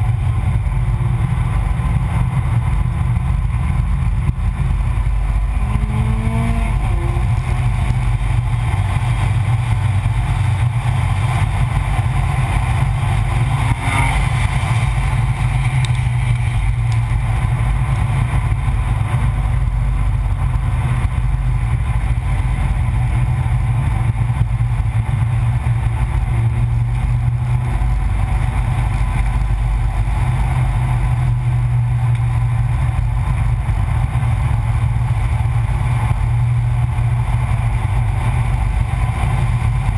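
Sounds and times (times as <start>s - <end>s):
car driving at speed: 0.0s - 39.9s.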